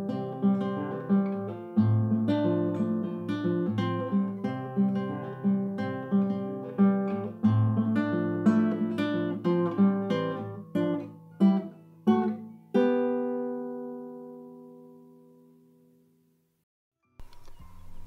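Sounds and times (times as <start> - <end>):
acoustic guitar chords: 0.0 - 16.4.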